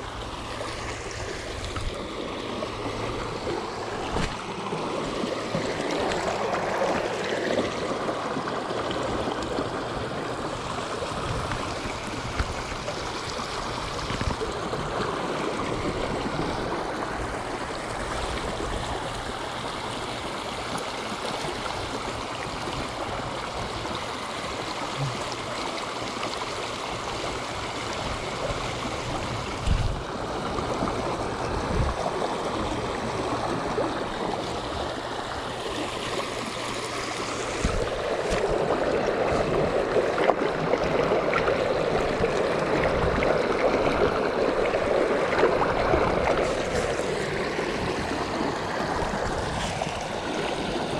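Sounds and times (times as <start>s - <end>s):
creek water rushing over rocks: 0.0s - 50.9s.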